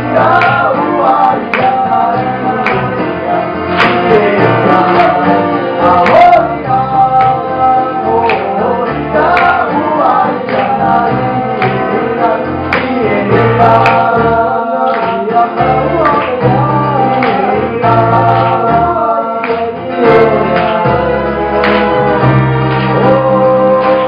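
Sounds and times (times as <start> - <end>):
man singing lead vocal: 0.0 - 24.0
second man singing along: 0.0 - 24.0
strummed acoustic guitar: 0.0 - 24.0.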